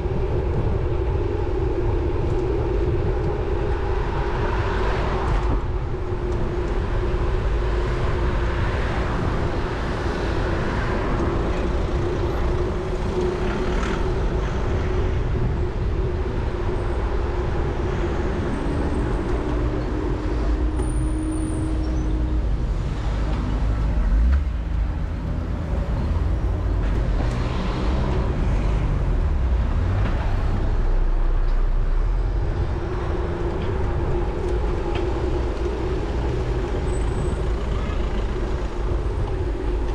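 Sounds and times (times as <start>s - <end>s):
low traffic rumble: 0.0s - 39.9s
vehicles passing: 0.0s - 39.9s.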